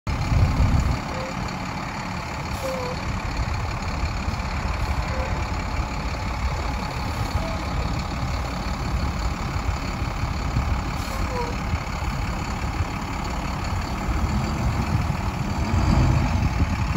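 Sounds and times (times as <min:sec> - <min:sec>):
diesel truck engine idling: 0:00.1 - 0:16.9.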